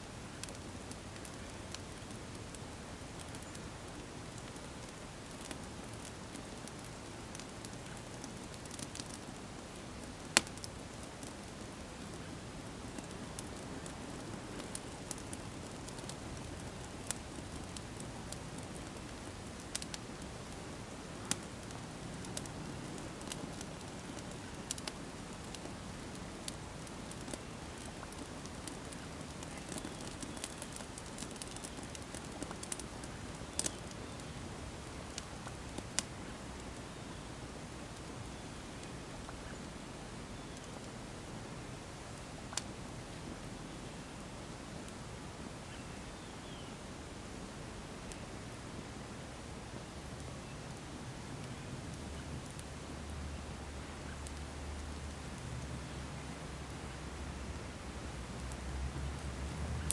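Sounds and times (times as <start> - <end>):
crackles and pops of fire: 0.0 - 59.9.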